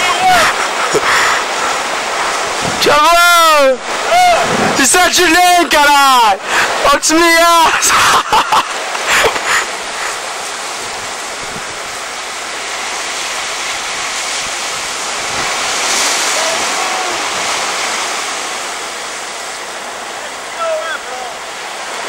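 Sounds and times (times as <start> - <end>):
surf washing against rocks: 0.0 - 22.0.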